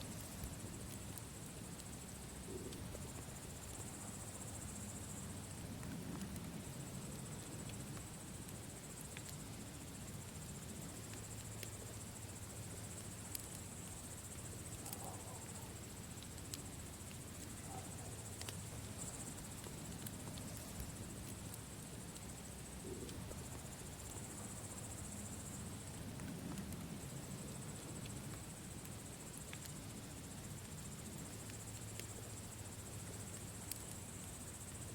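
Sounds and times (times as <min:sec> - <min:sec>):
wood fire crackling and popping: 0:05.2 - 0:24.6, 0:25.5 - 0:34.8.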